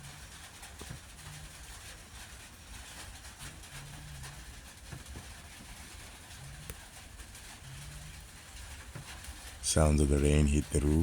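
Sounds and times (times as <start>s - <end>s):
rain falling on a roof: 0.0s - 11.0s.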